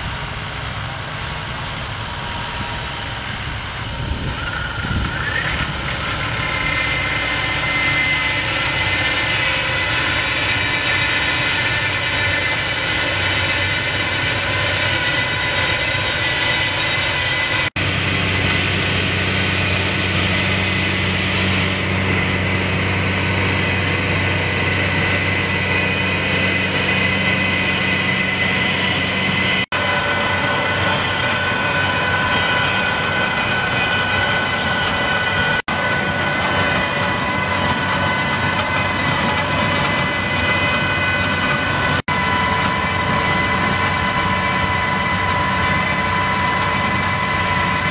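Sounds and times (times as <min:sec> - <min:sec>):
tractor engine running under load: 0:00.0 - 0:47.9.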